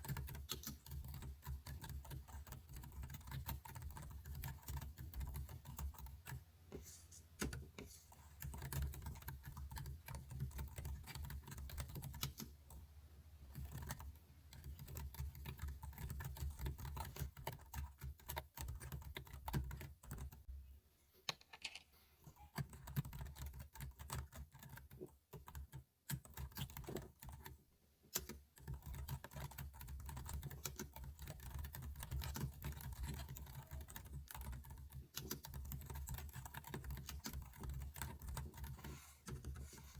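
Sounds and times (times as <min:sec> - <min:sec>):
computer keyboard keys clicking: 0:00.0 - 0:06.3, 0:08.4 - 0:12.8, 0:13.5 - 0:20.4, 0:22.5 - 0:39.6.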